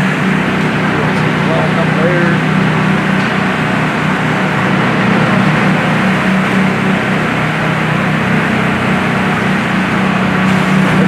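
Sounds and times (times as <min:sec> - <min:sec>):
machinery humming and hissing: 0:00.0 - 0:11.0.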